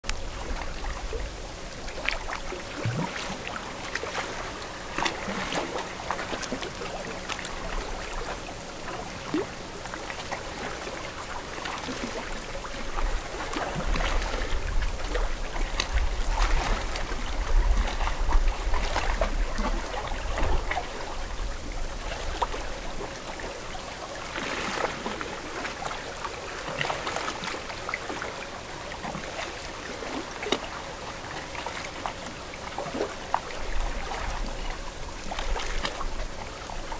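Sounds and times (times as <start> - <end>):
water lapping at shore: 0.0 - 36.9.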